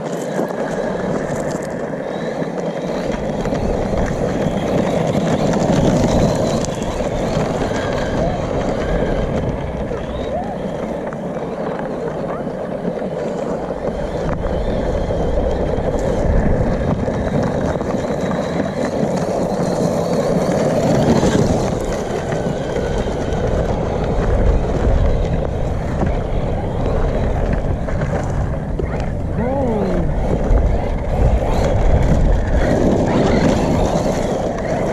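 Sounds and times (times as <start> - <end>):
rc truck rumble on dirt: 0.0 - 34.9
wind on microphone: 0.3 - 34.9.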